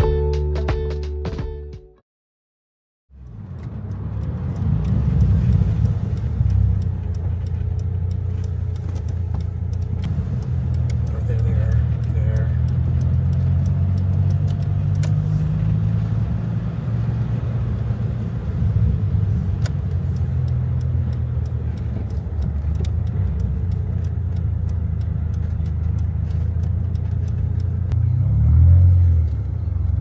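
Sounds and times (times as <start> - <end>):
car engine droning and revving: 3.1 - 30.0.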